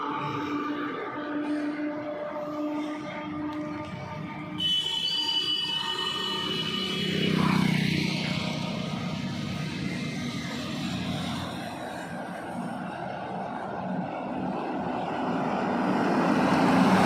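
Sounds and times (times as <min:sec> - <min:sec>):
heavy truck passing: 0:00.0 - 0:04.6, 0:06.6 - 0:17.0
traffic and tyre noise: 0:00.0 - 0:17.0.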